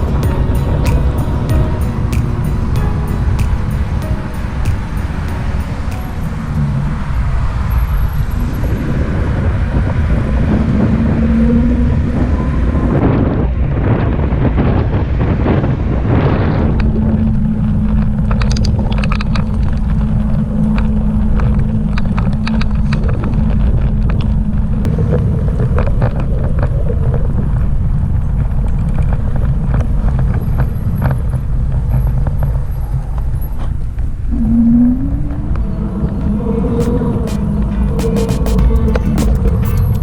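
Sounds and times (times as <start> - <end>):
wind buffeting microphone: 0.0 - 38.1.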